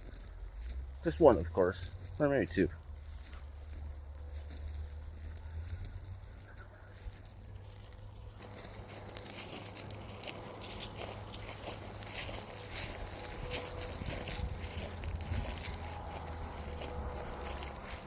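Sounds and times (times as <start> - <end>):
footsteps through dry grass: 0.0 - 18.0.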